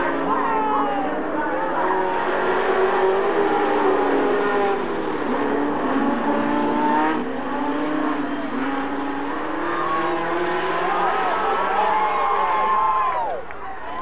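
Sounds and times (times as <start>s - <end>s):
race car engines revving: 0.0s - 13.6s.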